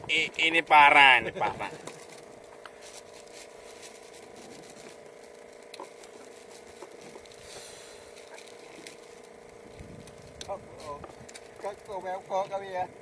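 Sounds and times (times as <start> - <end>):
faint steady hum: 0.0 - 13.0
light clicks and crackles: 1.7 - 12.7.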